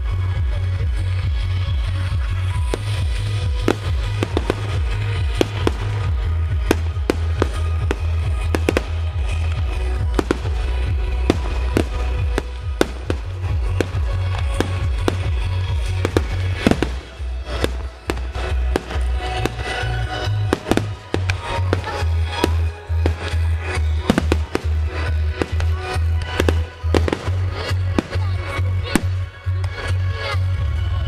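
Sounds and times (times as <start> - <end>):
music with heavy bass: 0.0 - 31.0.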